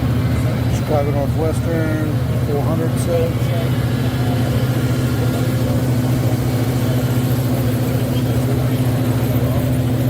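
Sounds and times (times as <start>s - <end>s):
busy exhibition hall noise: 0.0s - 10.0s.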